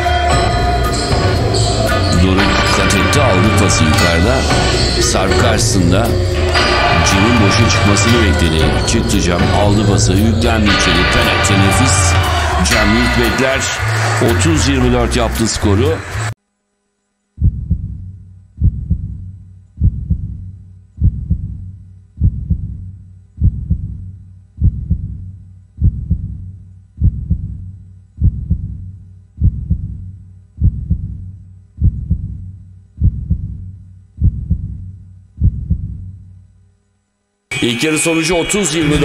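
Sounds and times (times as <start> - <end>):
deep bass pulse: 0.3 - 15.4, 17.4 - 36.6.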